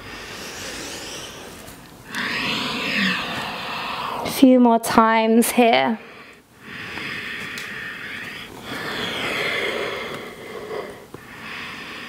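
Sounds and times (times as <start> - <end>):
person breathing deeply: 0.0 - 4.3, 6.0 - 12.0.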